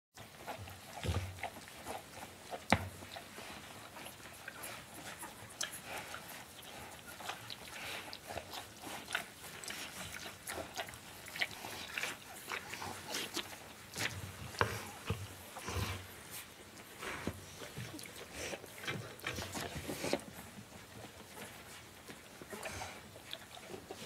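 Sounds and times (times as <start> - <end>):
puppies grunting and squeaking: 0.3 - 24.0.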